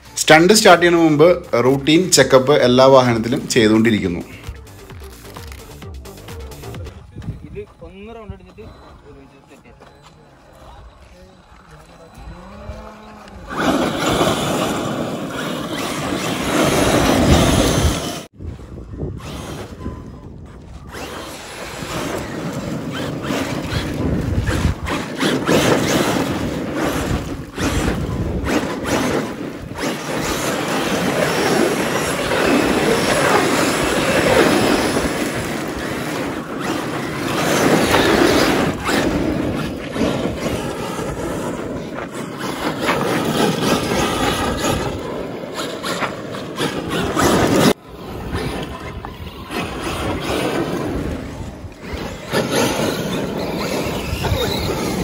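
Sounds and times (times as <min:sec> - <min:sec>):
tyres churning dirt: 0:08.5 - 0:55.0
electric motor whining: 0:09.9 - 0:18.3, 0:18.9 - 0:55.0.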